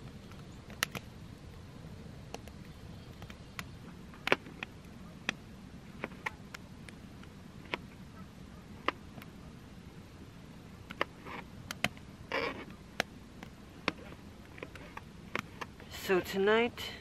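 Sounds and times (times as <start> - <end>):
faint low background noise: 0.0 - 17.0.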